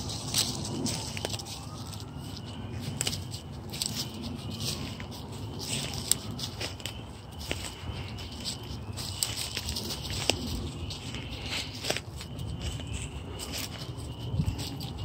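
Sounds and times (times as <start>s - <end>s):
light crackles and clicks: 0.0s - 15.0s.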